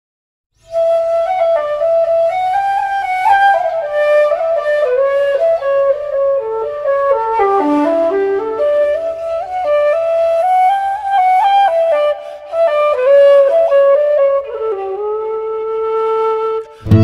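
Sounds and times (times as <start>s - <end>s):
instrumental folk melody: 0.6s - 17.0s.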